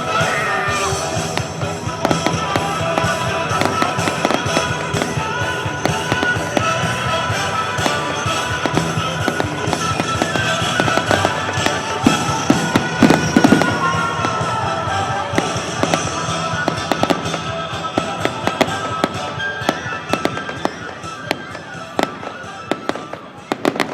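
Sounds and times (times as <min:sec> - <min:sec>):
fireworks crackling and banging: 0:00.0 - 0:23.9
music playing: 0:00.0 - 0:23.9.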